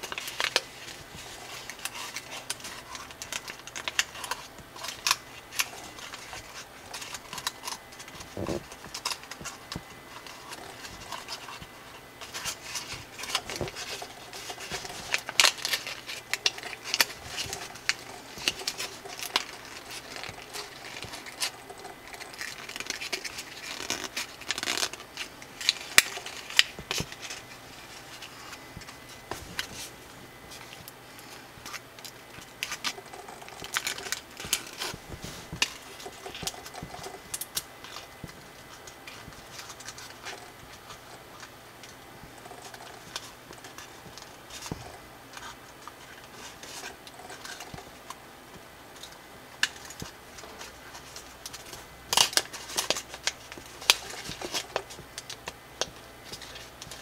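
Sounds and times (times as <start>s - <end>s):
paper rustling and crinkling: 0.0s - 48.2s, 48.9s - 57.0s.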